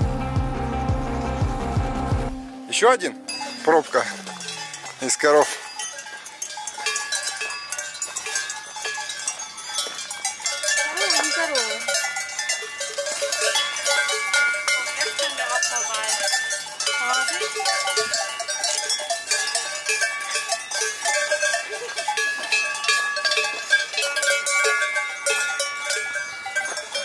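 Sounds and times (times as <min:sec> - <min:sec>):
cowbells clanging: 0:02.4 - 0:27.0.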